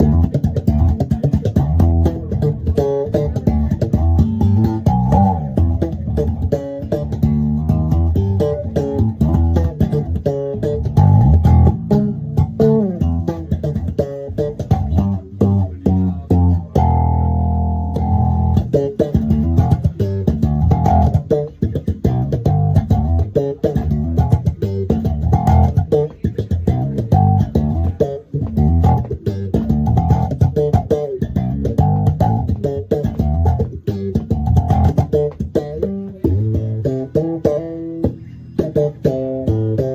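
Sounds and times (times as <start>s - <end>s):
slap bass notes with filter: 0.0s - 39.9s.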